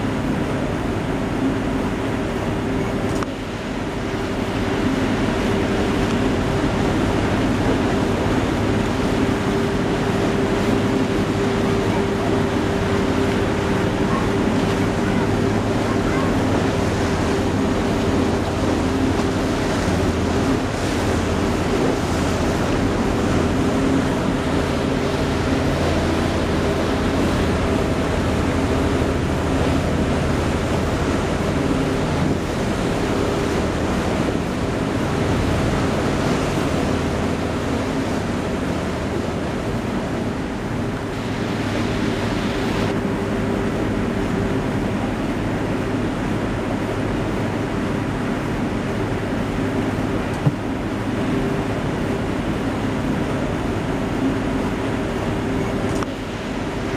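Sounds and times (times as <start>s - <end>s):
boat engine hum: 0.0s - 56.9s
water rushing: 0.0s - 56.9s.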